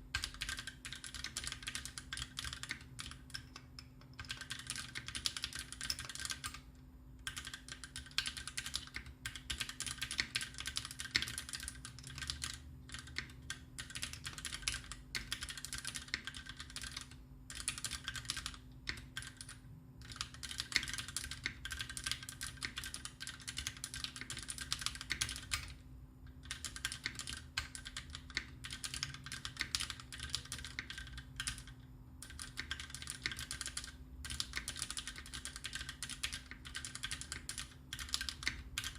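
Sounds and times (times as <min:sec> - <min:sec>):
fast typing on mechanical keyboard: 0:00.1 - 0:06.6, 0:07.2 - 0:25.8, 0:26.4 - 0:38.9.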